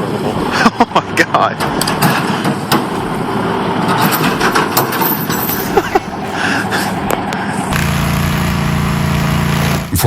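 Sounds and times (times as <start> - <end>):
diesel truck engine straining: 0.0 - 10.0.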